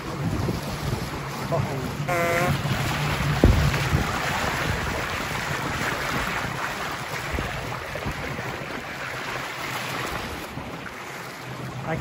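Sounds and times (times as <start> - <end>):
bow wave rushing and splashing: 0.0 - 12.0
wind buffeting microphone: 0.0 - 12.0.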